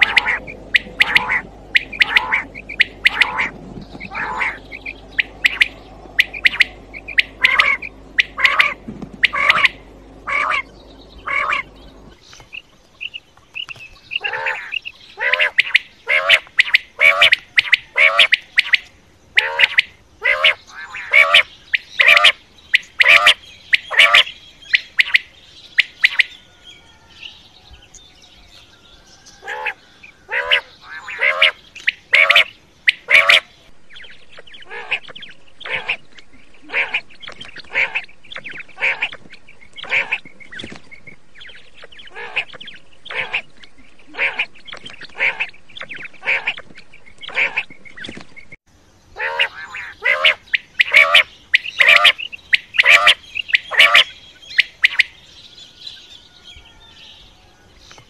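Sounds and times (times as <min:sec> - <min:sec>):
quail calling: 0:00.0 - 0:12.2, 0:14.1 - 0:27.1, 0:29.4 - 0:48.2, 0:49.2 - 0:55.2.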